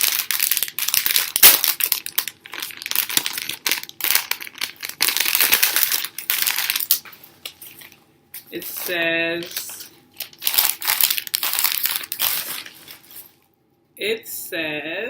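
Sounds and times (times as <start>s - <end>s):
gift wrap crinkling: 0.0s - 13.4s.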